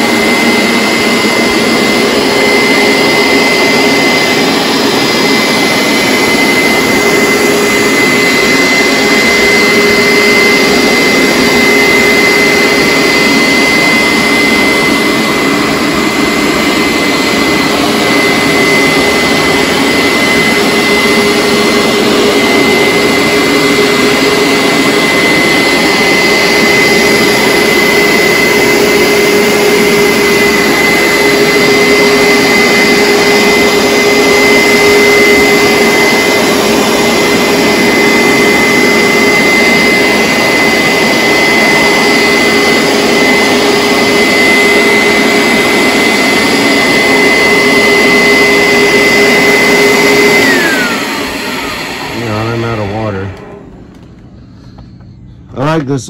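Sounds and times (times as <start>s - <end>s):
carpet cleaner motor whine: 0.0s - 55.9s.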